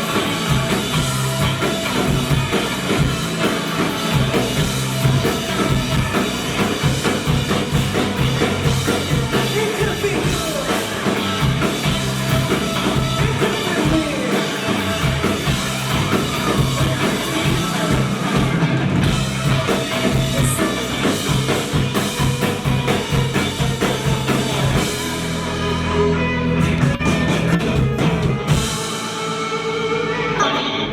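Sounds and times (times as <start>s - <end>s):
rock band playing live: 0.0s - 30.9s.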